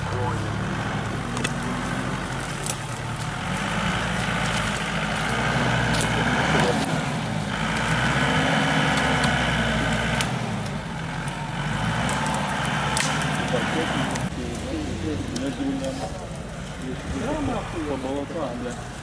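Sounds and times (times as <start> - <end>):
suv engine revving: 0.0 - 19.0.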